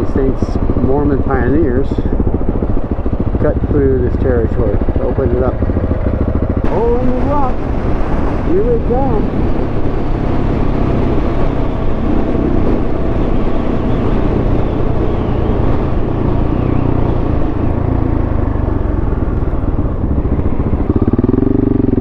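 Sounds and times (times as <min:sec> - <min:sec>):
motorcycle engine running: 0:00.0 - 0:22.0
road noise: 0:00.0 - 0:22.0.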